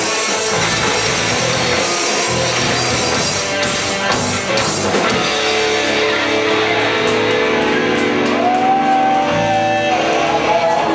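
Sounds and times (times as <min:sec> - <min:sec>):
drums: 0:00.0 - 0:10.9.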